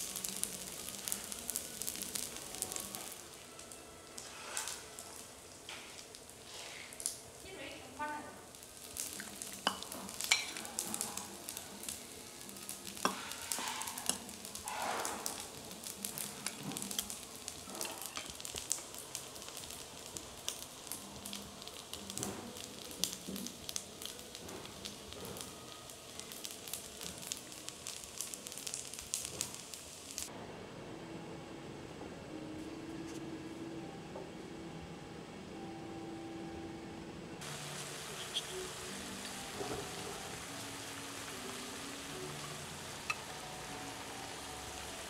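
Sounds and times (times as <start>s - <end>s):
hot food sizzling: 0.0s - 30.3s, 37.4s - 45.0s.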